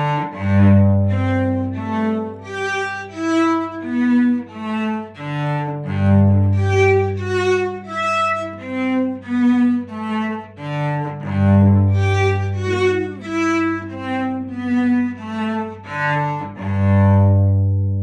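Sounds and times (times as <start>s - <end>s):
bowed cello notes: 0.0s - 18.0s.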